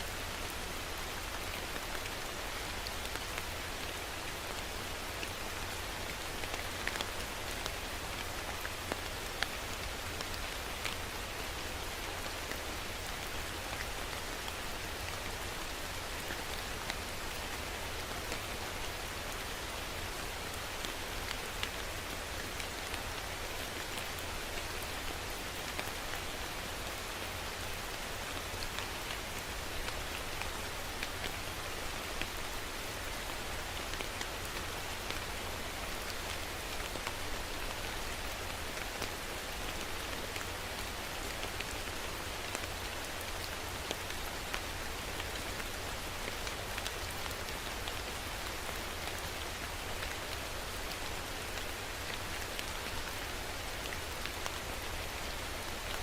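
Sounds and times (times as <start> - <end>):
steady rain hiss: 0.0 - 56.0
raindrops ticking on a surface: 0.1 - 56.0.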